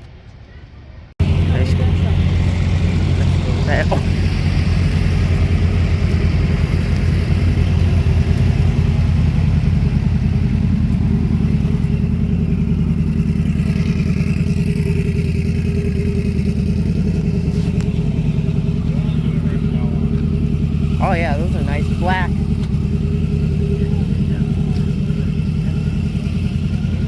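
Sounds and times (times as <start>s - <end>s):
car engine idling: 0.2s - 27.0s.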